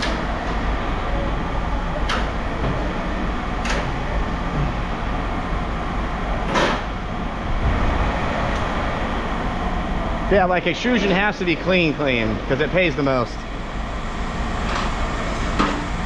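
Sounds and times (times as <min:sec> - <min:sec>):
scrapyard machinery rumbling: 0:00.0 - 0:16.0.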